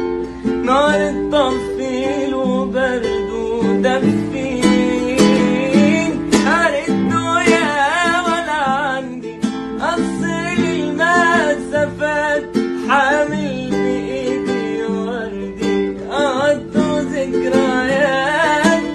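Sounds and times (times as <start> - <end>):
plucked acoustic guitar: 0.0 - 18.9
person singing ornamented melody: 0.6 - 18.9.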